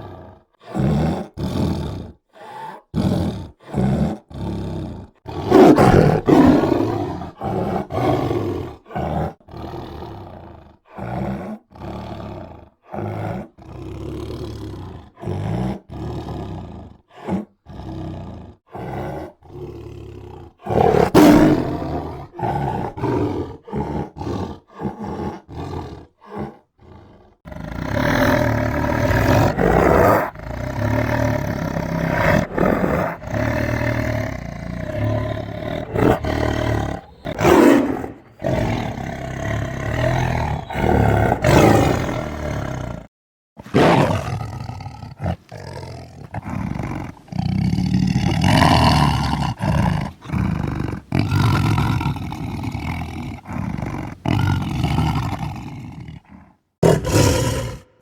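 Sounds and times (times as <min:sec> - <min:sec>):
tiger roaring: 0:00.0 - 0:58.0.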